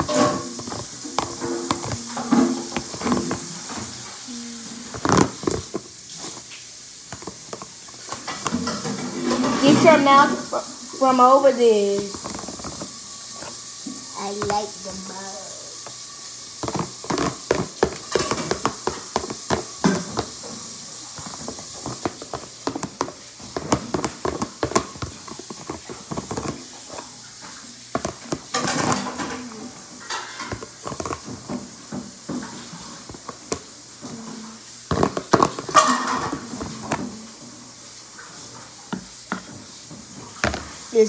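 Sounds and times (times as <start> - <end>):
utensil scraping plastic bowl: 0.0 - 37.5, 38.2 - 41.0.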